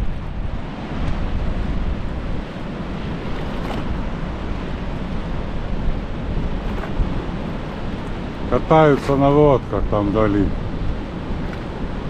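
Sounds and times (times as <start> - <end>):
sea surf breaking: 0.0 - 12.0
wind buffeting microphone: 0.0 - 12.0.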